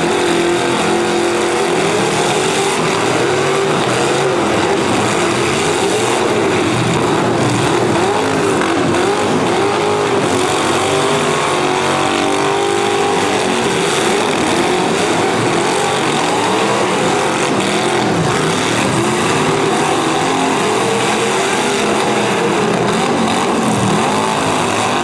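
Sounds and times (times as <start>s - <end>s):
car engines revving hard: 0.0s - 25.0s.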